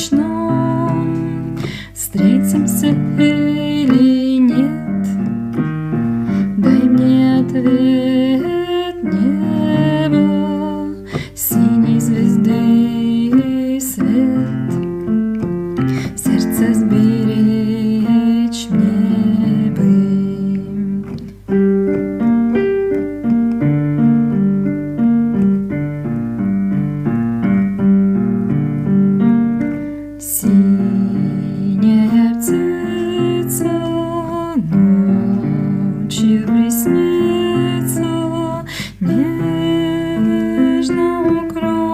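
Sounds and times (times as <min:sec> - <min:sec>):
keyboard chords and melody: 0:00.0 - 0:41.9.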